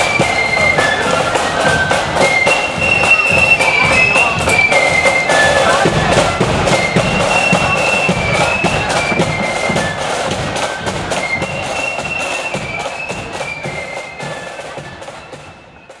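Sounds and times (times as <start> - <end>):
flute melody: 0.0 - 16.0
snare and bass drums: 0.0 - 16.0.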